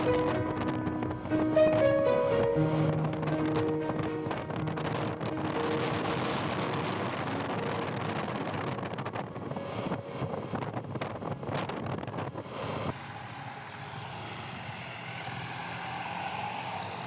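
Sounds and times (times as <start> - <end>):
rushing noise: 0.0 - 17.0.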